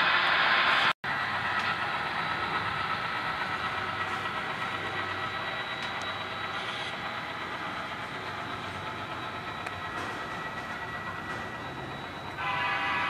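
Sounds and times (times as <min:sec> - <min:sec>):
model train wheels rolling: 0:01.1 - 0:13.0.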